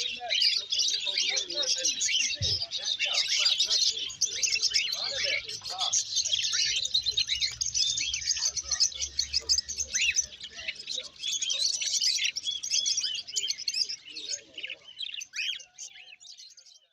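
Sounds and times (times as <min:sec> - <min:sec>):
cage birds chirping: 0:00.0 - 0:16.9.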